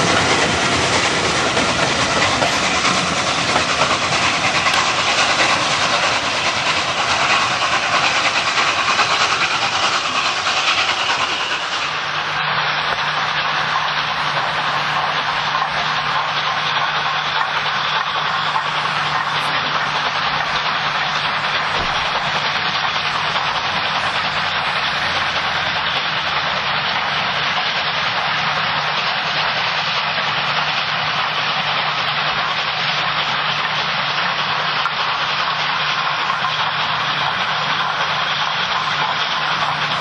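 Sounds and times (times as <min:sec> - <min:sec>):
steam locomotive hissing steam: 0:00.0 - 0:40.0.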